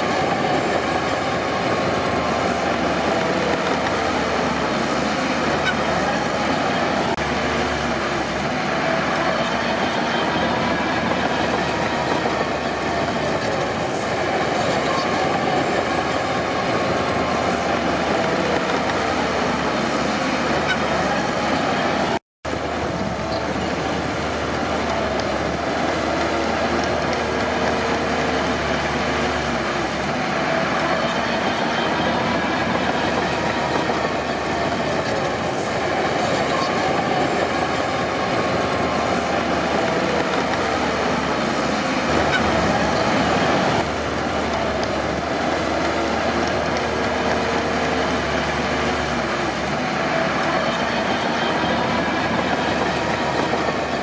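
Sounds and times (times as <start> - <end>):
steel tracks squealing and clattering: 0.0 - 22.2, 22.8 - 54.0
diesel engine under load: 0.0 - 54.0.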